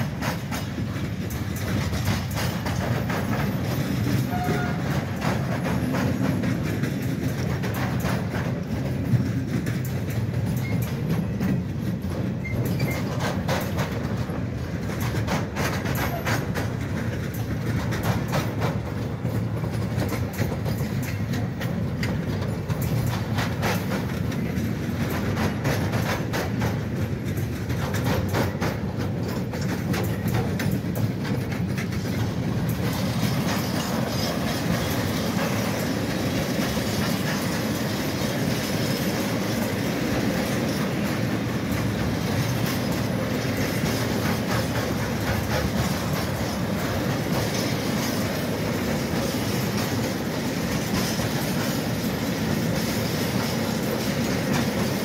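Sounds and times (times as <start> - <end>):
low train rumble: 0.0 - 55.0
train wheels clicking over rail joints: 0.0 - 55.0.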